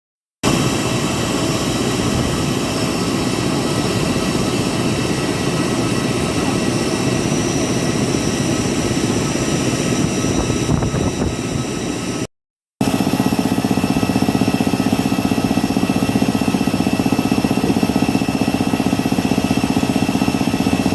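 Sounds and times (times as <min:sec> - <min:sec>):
jet engine whine: 0:00.4 - 0:20.9.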